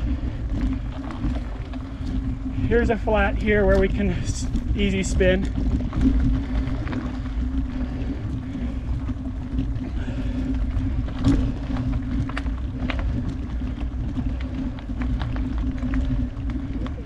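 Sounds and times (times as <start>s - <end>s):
bike rumbling on dirt trail: 0.0s - 17.0s.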